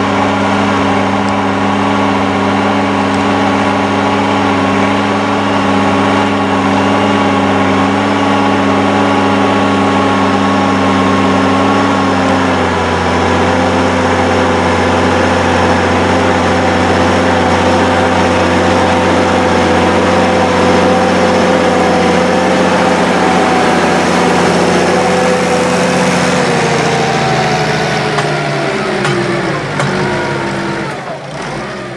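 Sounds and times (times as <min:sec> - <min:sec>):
tractor diesel engine under load: 0:00.0 - 0:31.9.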